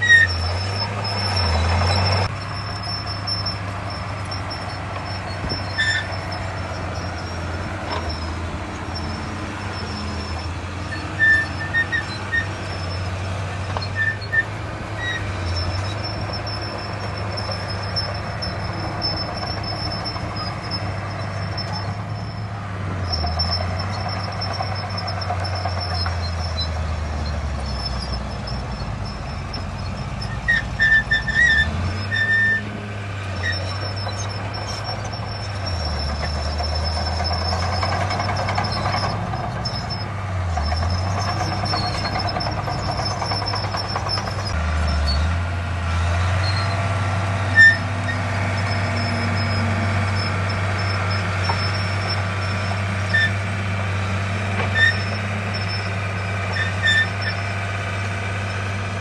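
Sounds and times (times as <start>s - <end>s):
diesel earthmoving machinery: 0.0s - 59.0s.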